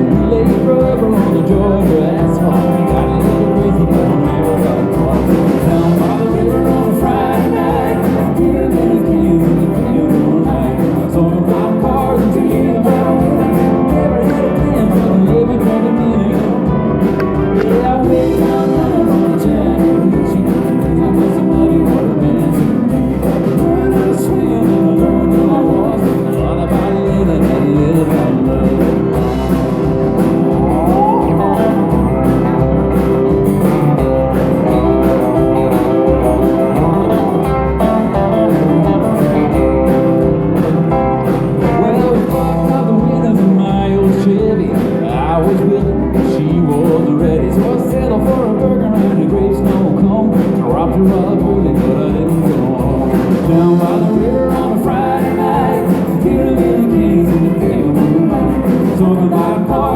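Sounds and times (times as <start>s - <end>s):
live country-rock band playing: 0.0s - 59.9s.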